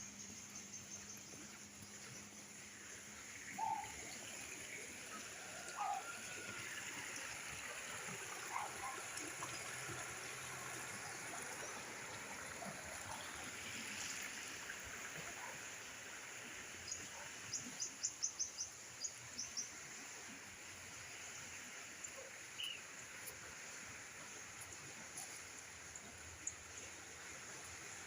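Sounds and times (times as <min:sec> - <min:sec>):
stream water rushing: 0:00.1 - 0:28.0.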